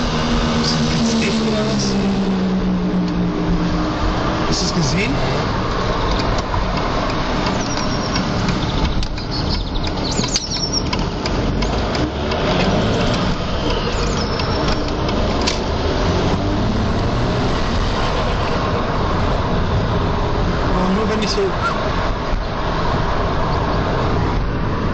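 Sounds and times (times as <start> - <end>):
diesel engine running: 0.0 - 24.9
loud whining engine noise: 0.0 - 24.9.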